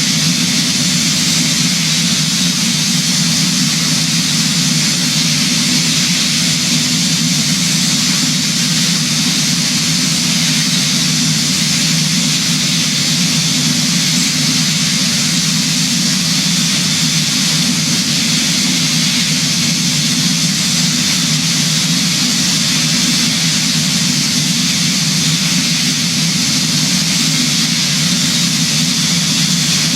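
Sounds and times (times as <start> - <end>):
aircraft engines: 0.0 - 29.9.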